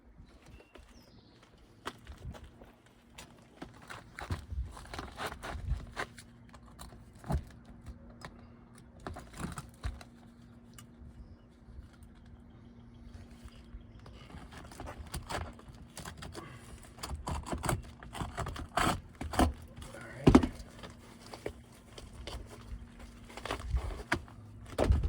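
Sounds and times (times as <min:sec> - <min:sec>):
scrapes and taps on roof shingle: 0:00.4 - 0:10.7, 0:14.0 - 0:25.0.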